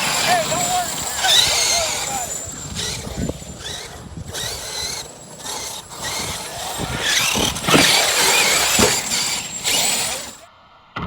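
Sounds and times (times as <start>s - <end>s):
electric motors whining: 0.0s - 10.4s
tyre noise: 0.0s - 10.4s.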